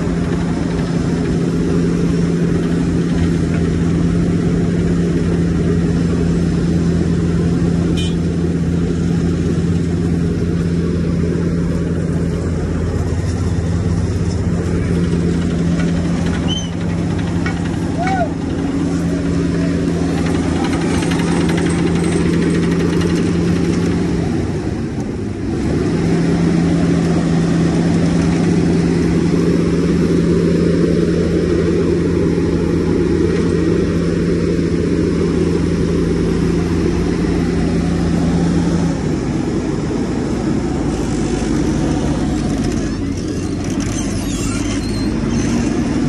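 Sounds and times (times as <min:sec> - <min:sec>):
asphalt paver diesel engine drone: 0:00.0 - 0:46.0.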